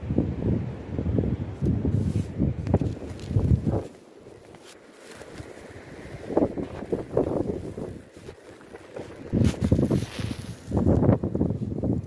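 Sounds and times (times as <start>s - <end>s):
wind buffeting microphone: 0.0s - 4.6s, 5.2s - 12.0s.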